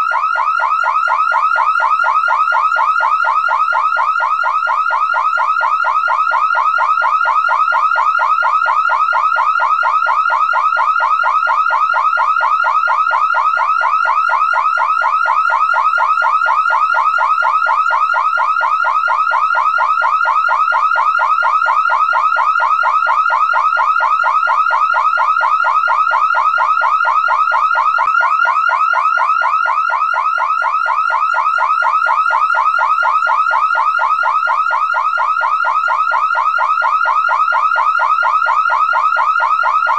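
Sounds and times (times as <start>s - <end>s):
car alarm siren warbling: 0.0s - 39.9s.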